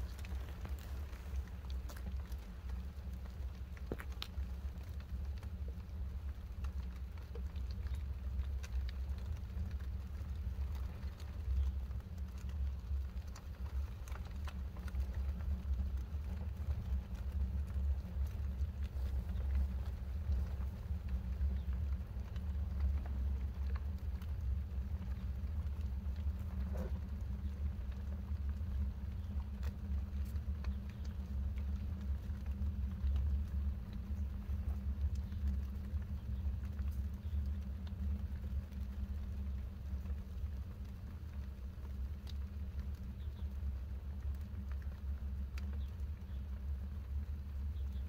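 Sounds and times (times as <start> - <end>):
low rumble: 0.0 - 48.0
wood fire crackling in stove: 0.0 - 48.0.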